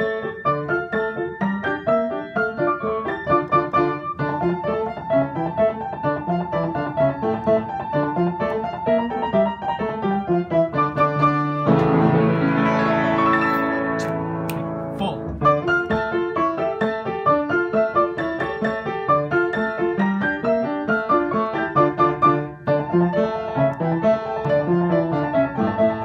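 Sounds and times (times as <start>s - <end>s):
piano duet: 0.0s - 26.0s.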